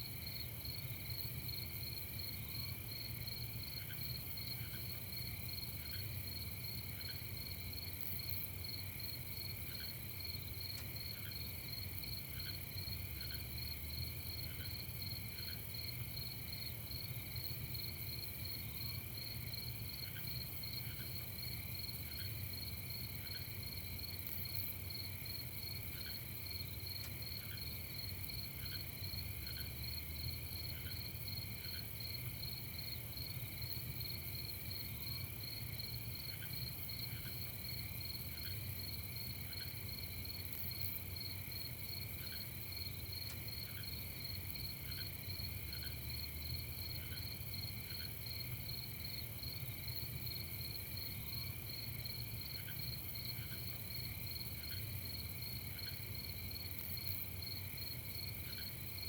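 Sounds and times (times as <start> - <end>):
crickets trilling: 0.1 - 59.0.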